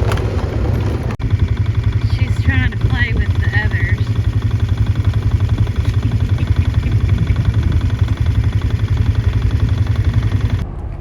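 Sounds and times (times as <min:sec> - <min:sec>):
tractor engine idling: 0:00.0 - 0:10.6.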